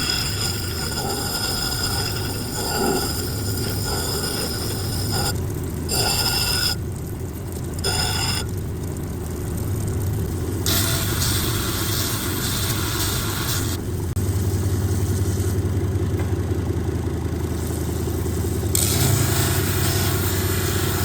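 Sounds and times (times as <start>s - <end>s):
grinding machine motor hum: 0.0s - 21.0s
high grinding whine: 0.0s - 21.0s.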